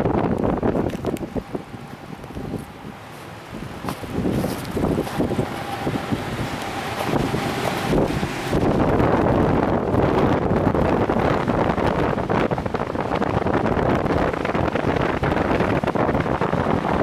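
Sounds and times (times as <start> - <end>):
road and wind noise in cabin: 0.0 - 17.0.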